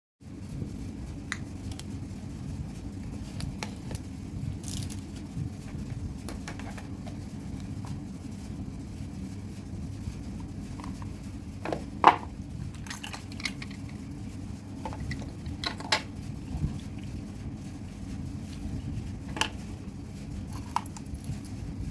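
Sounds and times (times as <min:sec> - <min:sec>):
steady low hum: 0:00.2 - 0:21.9.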